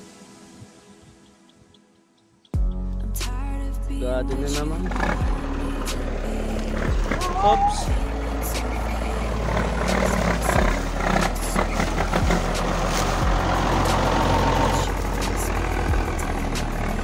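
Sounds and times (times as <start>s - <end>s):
truck engine rumbling: 2.6s - 17.0s.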